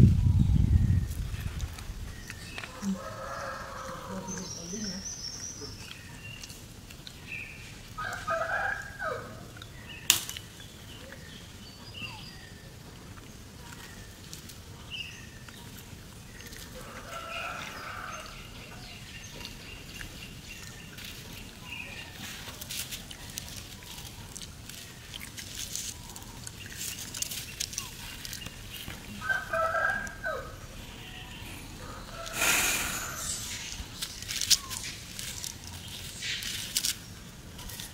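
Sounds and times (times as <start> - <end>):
rustling in dry leaves: 0.0 - 37.9.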